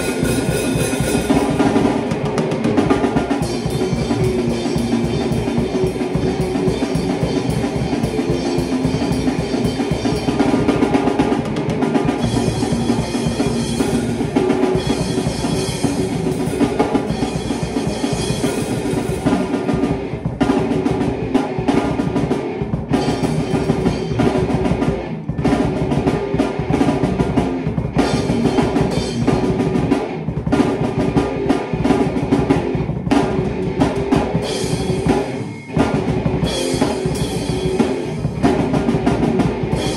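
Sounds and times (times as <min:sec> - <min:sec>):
drum kit playing rock: 0:00.0 - 0:39.9
electric guitar riff: 0:00.0 - 0:39.9.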